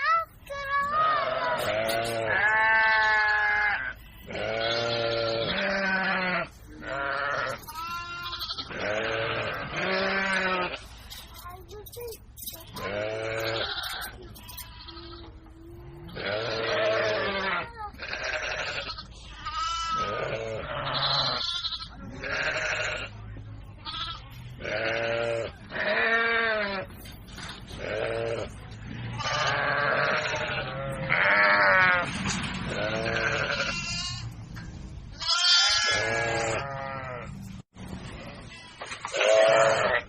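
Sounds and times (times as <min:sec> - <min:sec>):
baby goats bleating: 0:00.1 - 0:23.1, 0:23.8 - 0:26.9, 0:29.2 - 0:32.1, 0:32.7 - 0:34.4, 0:35.2 - 0:37.3, 0:38.4 - 0:40.0.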